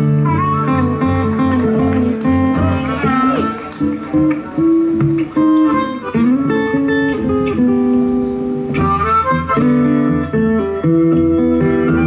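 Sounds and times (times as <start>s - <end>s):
acoustic guitars: 0.0s - 12.0s
blues harmonica bending notes: 0.0s - 12.0s.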